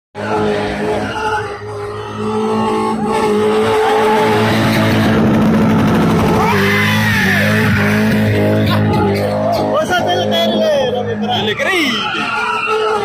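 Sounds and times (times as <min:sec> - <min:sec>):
tyres squealing on tarmac: 0:00.2 - 0:05.2, 0:06.3 - 0:13.0
car engine at high revs: 0:00.2 - 0:11.5.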